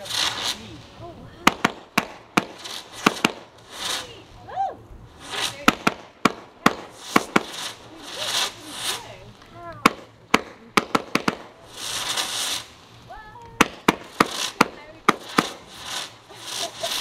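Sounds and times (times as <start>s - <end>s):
fireworks bangs: 0.0s - 17.0s
fireworks hissing: 0.0s - 17.0s.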